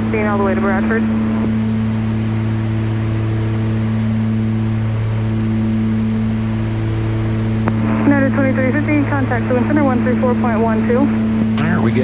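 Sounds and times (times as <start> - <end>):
aircraft engines droning: 0.0 - 12.0
faint high whine: 0.0 - 12.0.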